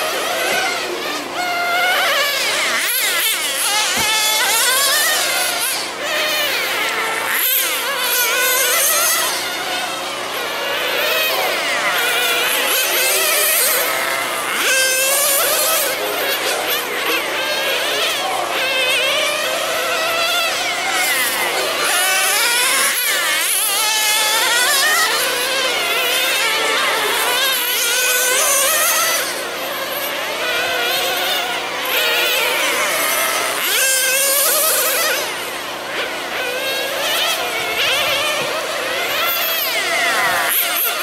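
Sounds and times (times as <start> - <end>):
rc car engines whining: 0.0 - 41.0.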